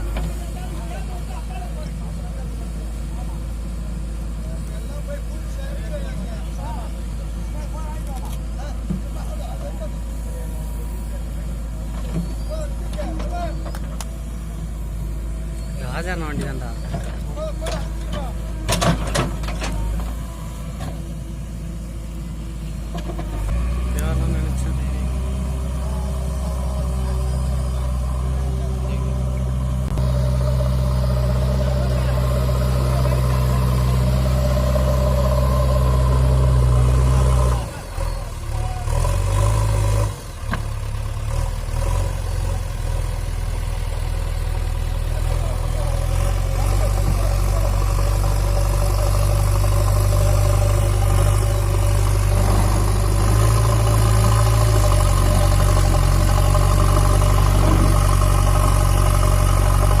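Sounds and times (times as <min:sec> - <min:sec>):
diesel engine running under load: 0:00.0 - 1:00.0.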